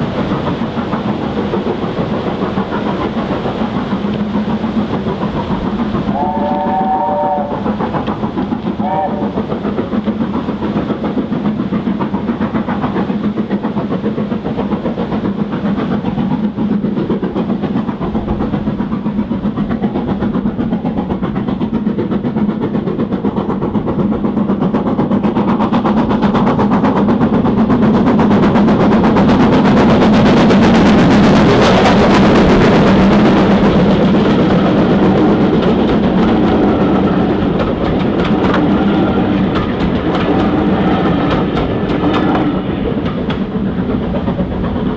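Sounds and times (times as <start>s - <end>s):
steam train passing: 0.0s - 44.9s.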